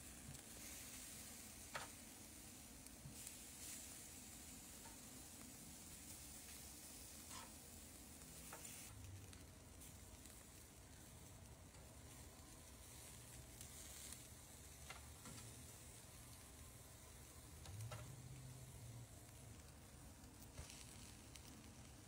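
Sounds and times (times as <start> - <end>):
chicken sizzling on a grill: 0.0 - 22.0.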